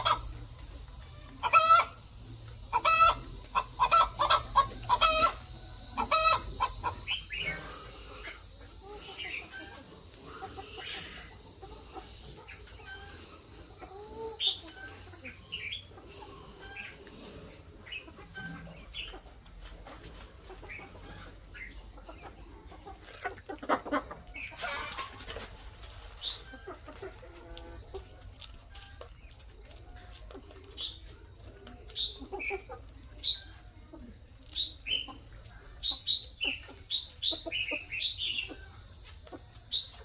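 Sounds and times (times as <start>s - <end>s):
chickens clucking: 0.0s - 40.0s
steady high-pitched whine: 0.0s - 40.0s.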